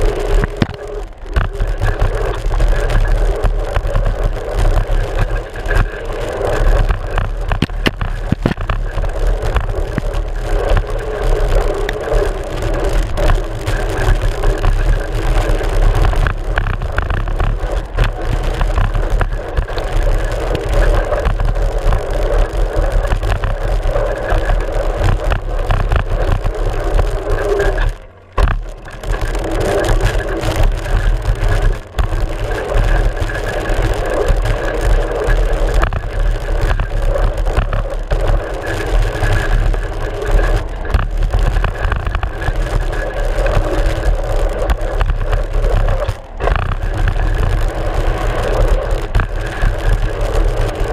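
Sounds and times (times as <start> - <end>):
bike tyre and wind rumble: 0.0 - 50.9.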